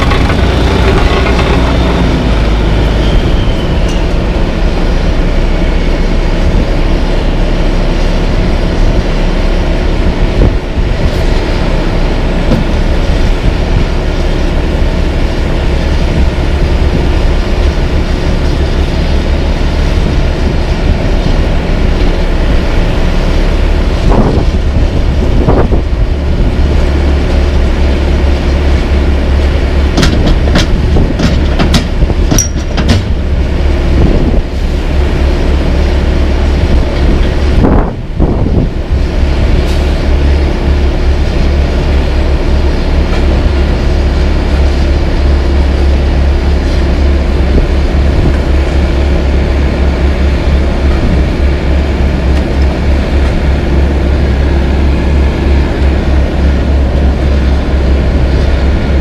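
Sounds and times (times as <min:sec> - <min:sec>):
diesel engines running: 0:00.0 - 0:59.0
wind buffeting microphone: 0:00.0 - 0:59.0.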